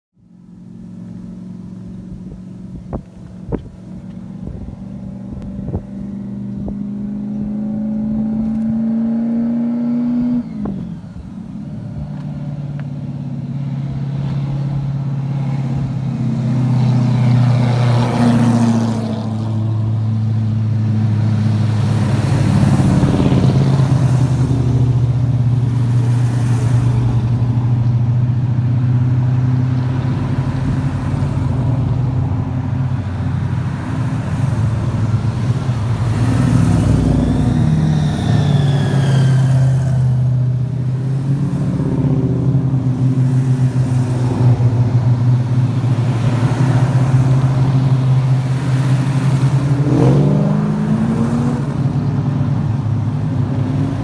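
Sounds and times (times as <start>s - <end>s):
car engines running: 0.2s - 54.0s
cars passing close: 0.3s - 54.0s.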